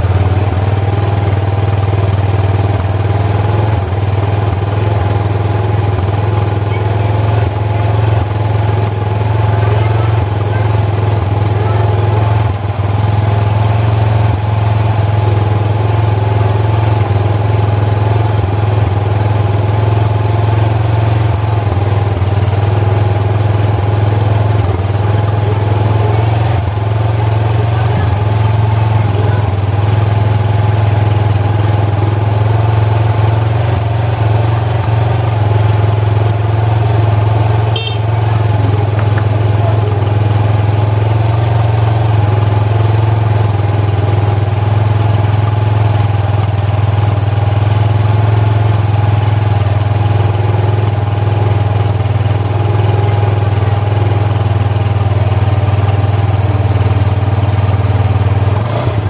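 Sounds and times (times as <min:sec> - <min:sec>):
scooter engine idling: 0:00.0 - 0:59.0.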